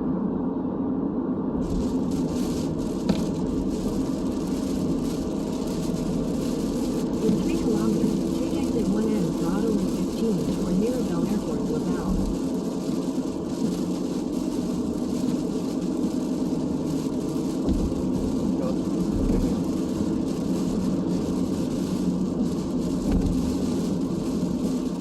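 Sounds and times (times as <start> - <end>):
car engine noise: 0.0 - 25.0
tyres hissing on wet pavement: 1.6 - 25.0.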